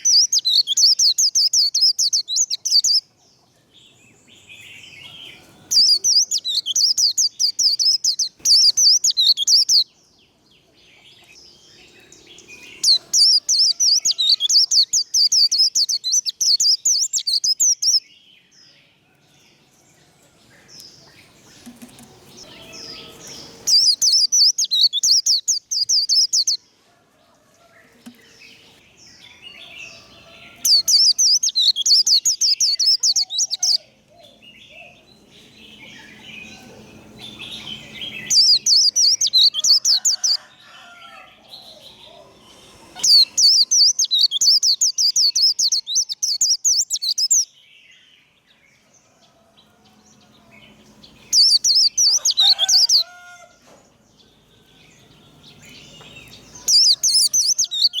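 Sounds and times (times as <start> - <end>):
soft bird chirps: 0.0 - 18.2, 20.7 - 26.6, 27.8 - 40.9, 41.5 - 47.5, 50.2 - 53.3, 54.2 - 58.0.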